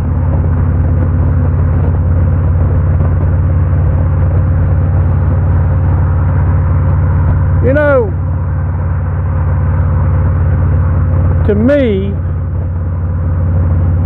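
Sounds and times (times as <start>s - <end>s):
motorcycle engine droning: 0.0s - 14.0s
wind and road noise: 0.0s - 14.0s.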